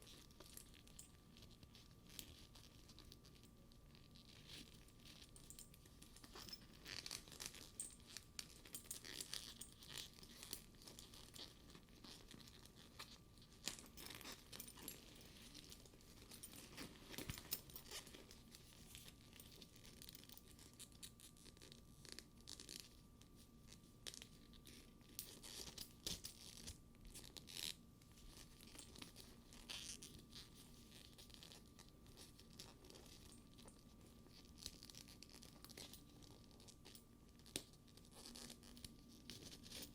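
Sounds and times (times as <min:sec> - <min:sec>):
leather purse crackling under fingers: 0:00.0 - 0:39.9.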